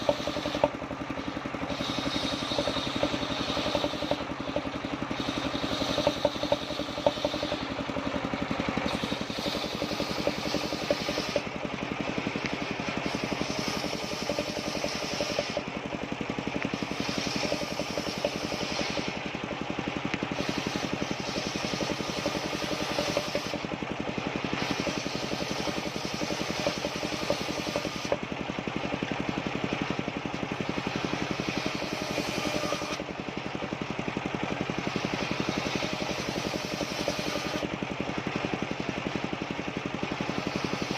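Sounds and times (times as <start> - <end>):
saw rasping through wood: 0.0 - 40.9
sawmill engine running: 0.0 - 40.9.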